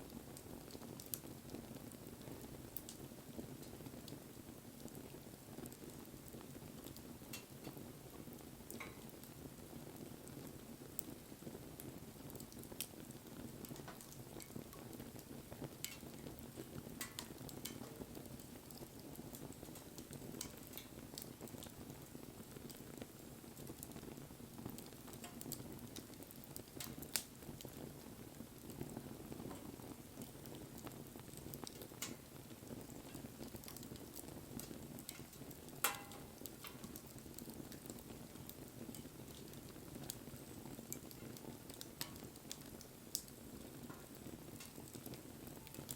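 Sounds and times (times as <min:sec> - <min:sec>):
fire crackles and pops: 0:00.0 - 0:45.9.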